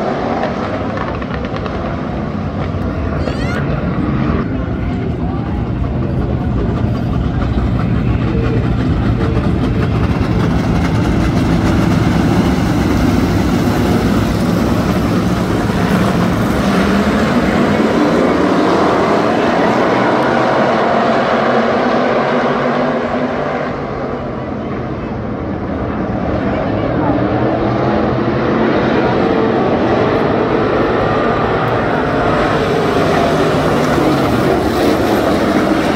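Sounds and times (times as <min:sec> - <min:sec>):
race car engines passing: 0:00.0 - 0:35.9.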